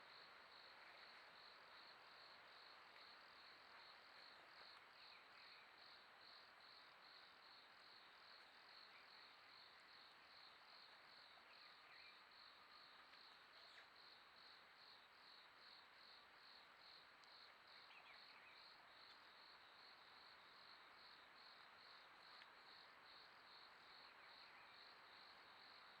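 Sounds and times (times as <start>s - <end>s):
insect chirping: 0.2s - 26.0s.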